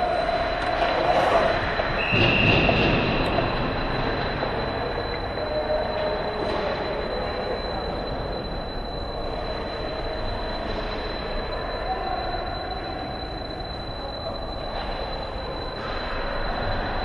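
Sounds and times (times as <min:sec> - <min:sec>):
arena hum: 0:00.0 - 0:17.0
thin high whine: 0:00.0 - 0:17.0.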